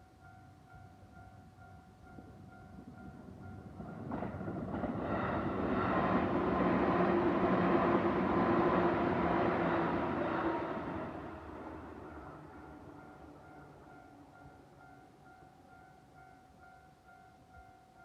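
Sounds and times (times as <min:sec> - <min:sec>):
crossing warning bell dinging: 0:00.0 - 0:18.0
train passing: 0:00.0 - 0:18.0.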